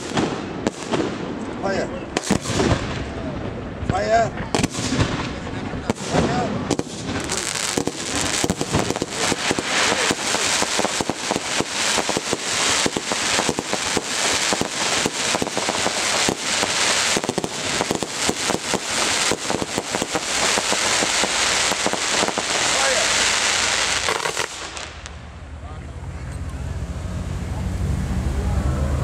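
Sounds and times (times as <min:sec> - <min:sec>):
fireworks bursting and crackling: 0:00.0 - 0:25.3.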